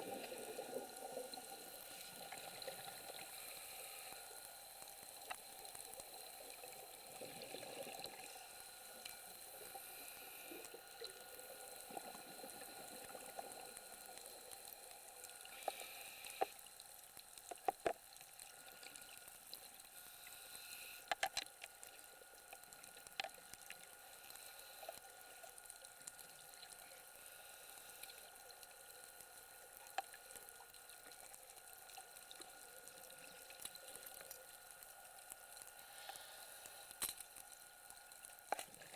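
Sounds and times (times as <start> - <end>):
underwater hiss and crackle: 0.0 - 38.9.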